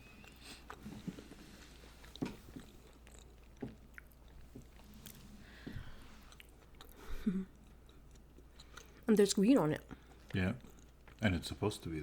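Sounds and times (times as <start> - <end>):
chewing soft sweets: 0.0 - 12.0.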